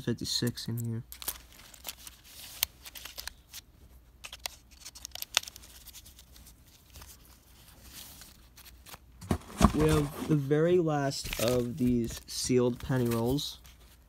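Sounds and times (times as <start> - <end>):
paper rustling and crinkling: 1.1 - 3.6, 4.2 - 14.0.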